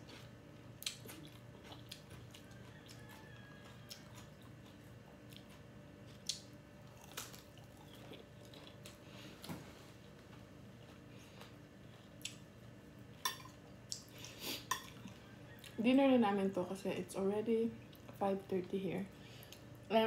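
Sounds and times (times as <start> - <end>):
person chewing food: 0.0 - 15.8, 17.8 - 18.2, 19.2 - 19.9
faint low hum: 0.0 - 20.0.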